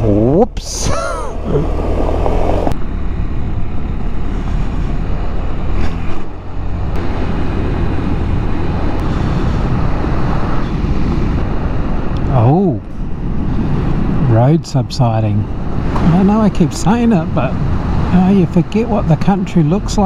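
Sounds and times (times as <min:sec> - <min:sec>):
tyres on gravel road: 0:00.0 - 0:20.0
wind rush: 0:01.3 - 0:20.0.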